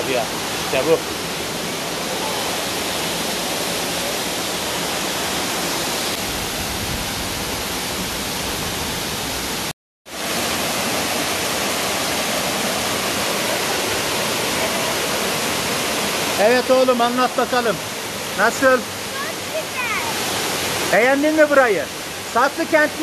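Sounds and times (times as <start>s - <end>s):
waterfall rushing onto rock: 0.0s - 23.0s.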